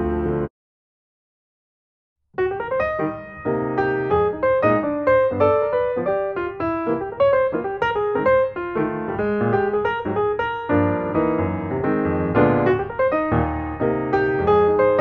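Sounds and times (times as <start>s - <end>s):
piano notes and chords: 0.0s - 0.5s, 2.4s - 15.0s.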